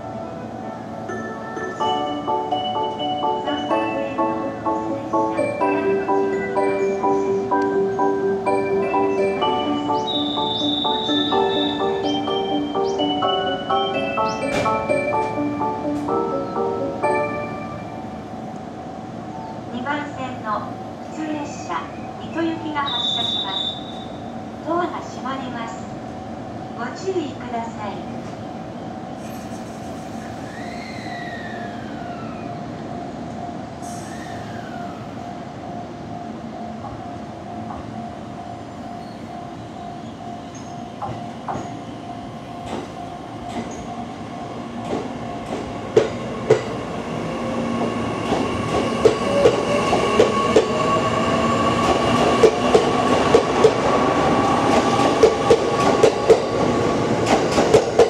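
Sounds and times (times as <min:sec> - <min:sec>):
train hum: 0:00.0 - 0:58.0.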